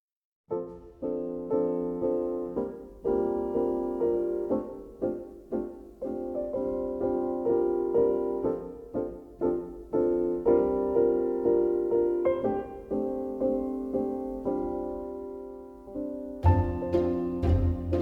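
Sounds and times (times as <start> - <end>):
piano playing chords: 0.5 - 18.0.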